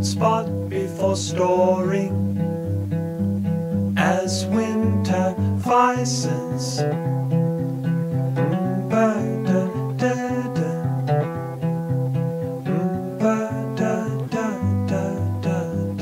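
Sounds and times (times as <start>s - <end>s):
plucked guitar notes: 0.0s - 16.0s
steady bass line: 0.0s - 16.0s.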